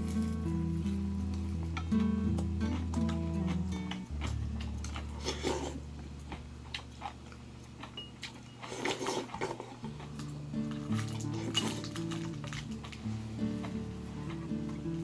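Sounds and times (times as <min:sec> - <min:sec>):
soft background music: 0:00.0 - 0:06.6, 0:07.9 - 0:15.0
person chewing crunchy food: 0:00.0 - 0:15.0.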